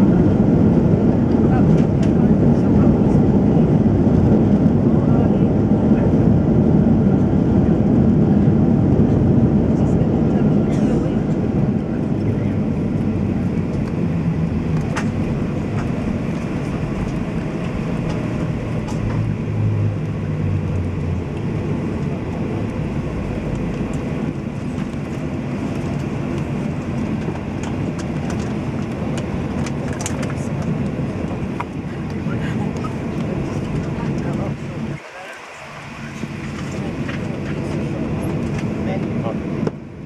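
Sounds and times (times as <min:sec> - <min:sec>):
airplane landing rumble: 0:00.0 - 0:40.0
low engine hum: 0:00.0 - 0:40.0.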